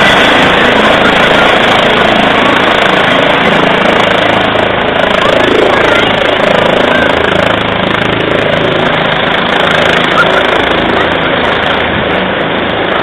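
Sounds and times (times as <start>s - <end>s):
helicopter rotor and turbine: 0.0s - 13.0s.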